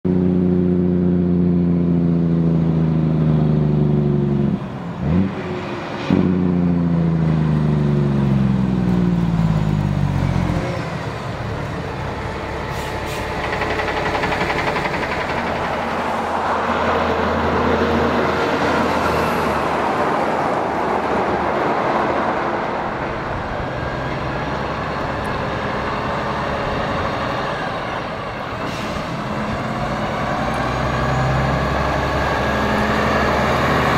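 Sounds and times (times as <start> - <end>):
truck engine and tyres rolling past: 0.1 - 33.9.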